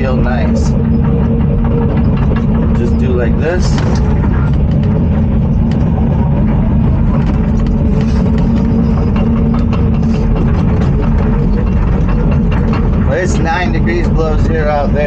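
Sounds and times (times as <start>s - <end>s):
excavator diesel engine running: 0.0s - 15.0s
tracks clanking and knocking: 0.0s - 15.0s.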